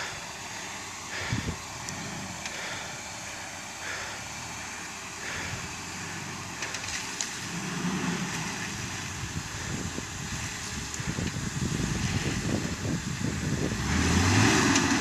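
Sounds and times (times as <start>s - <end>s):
suv engine running under load: 0.0s - 15.0s.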